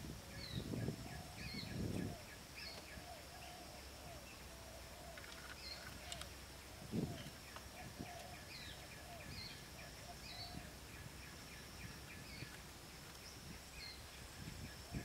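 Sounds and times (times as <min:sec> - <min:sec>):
birds chirping: 0:00.4 - 0:15.0.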